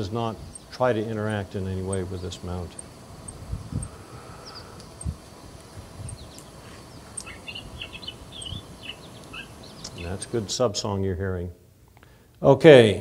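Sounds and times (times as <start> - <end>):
sparrow twitters and chirps: 0.0 - 10.5
faint outdoor hiss: 0.0 - 13.0.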